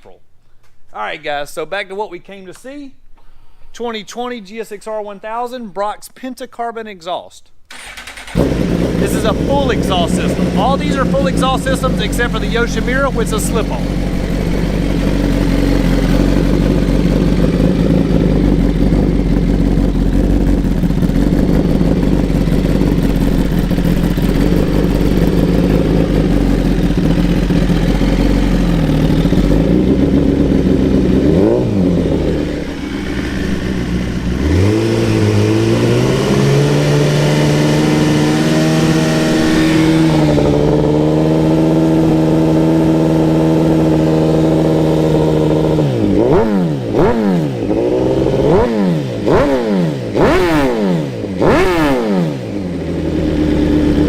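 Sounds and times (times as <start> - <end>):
motorcycle engine idling and revving: 7.7 - 54.0.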